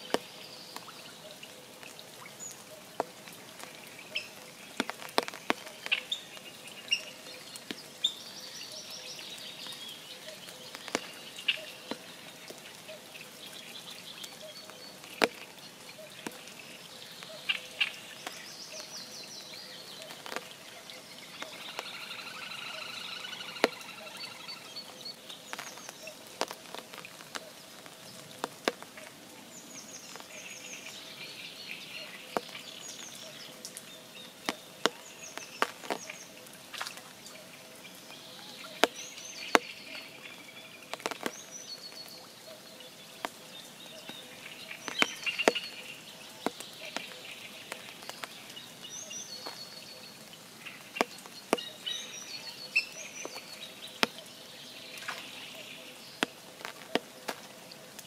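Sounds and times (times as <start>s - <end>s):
rain drops falling: 0.0s - 58.0s
songbirds singing: 0.0s - 58.0s.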